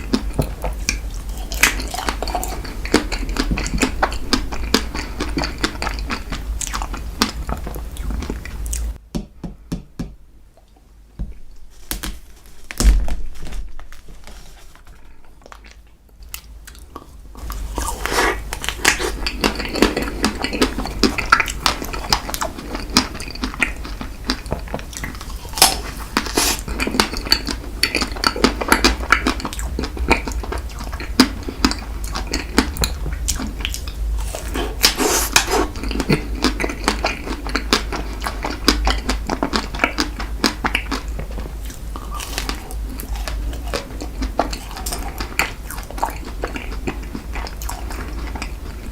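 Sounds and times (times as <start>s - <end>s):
chewing: 0.0s - 9.0s, 14.8s - 48.9s.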